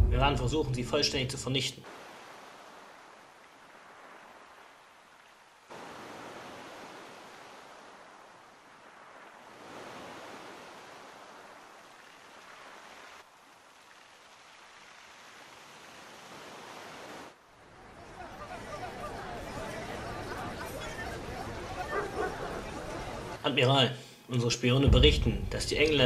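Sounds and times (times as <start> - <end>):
ocean waves washing in: 1.0 - 23.4.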